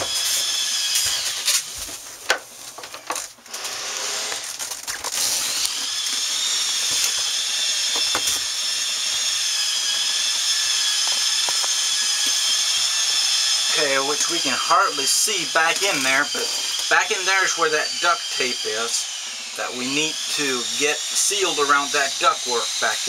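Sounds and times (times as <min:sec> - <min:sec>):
small electric motor whining: 0:00.0 - 0:01.9, 0:03.1 - 0:23.0.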